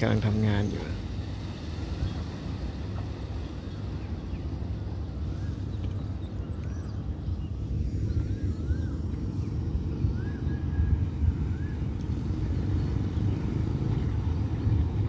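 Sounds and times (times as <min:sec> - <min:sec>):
wind buffeting microphone: 0:00.0 - 0:15.0
warbling bird calls: 0:00.1 - 0:15.0.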